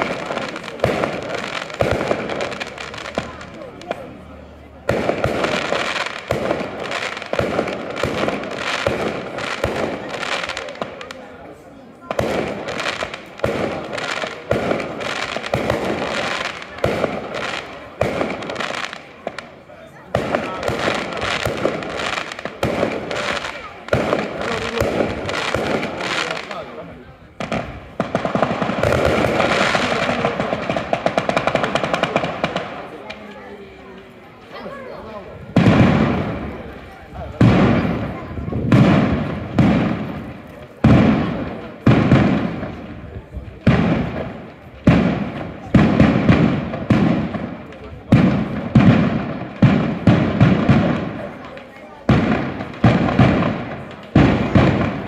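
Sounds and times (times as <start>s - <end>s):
firecrackers rattling: 0.0s - 55.0s
firework bangs: 0.0s - 55.0s.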